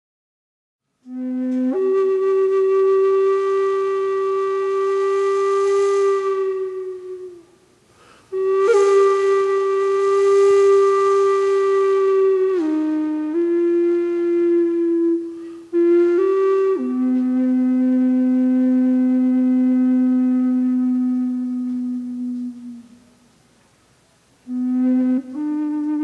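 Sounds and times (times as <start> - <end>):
flute playing long held notes: 1.0 - 7.7, 8.3 - 23.3, 24.4 - 26.0.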